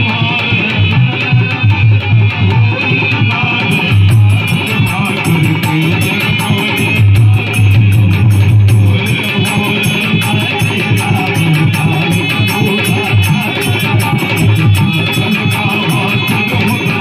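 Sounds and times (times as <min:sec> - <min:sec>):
dholak drum rhythm: 0:00.0 - 0:17.0
harmonium chords: 0:00.0 - 0:17.0.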